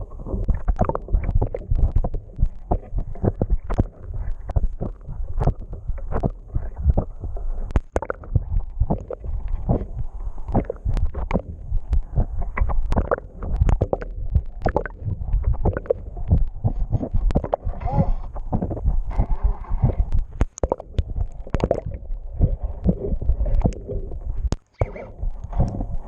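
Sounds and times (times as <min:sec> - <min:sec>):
low rumble: 0:00.0 - 0:24.5
muffled water rushing and gurgling: 0:00.0 - 0:26.0.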